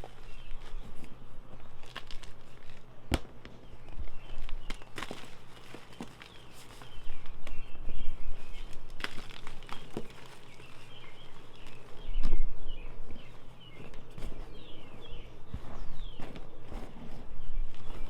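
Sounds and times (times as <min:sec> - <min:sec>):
chalk crunching and crumbling: 0:00.0 - 0:07.6, 0:08.4 - 0:18.0
birds chirping: 0:00.0 - 0:18.0.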